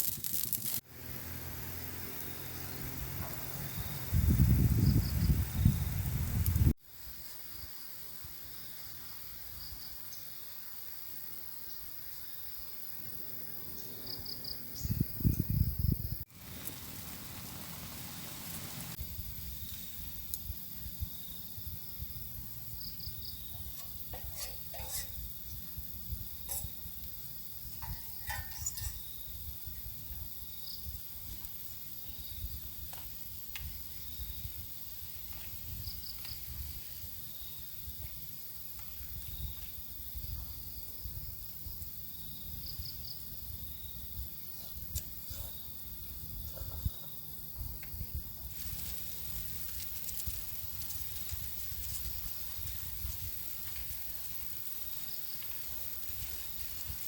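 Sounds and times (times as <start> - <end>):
faint hiss: 0.0 - 13.8, 16.1 - 42.7, 47.8 - 57.0
insects trilling: 0.0 - 57.0.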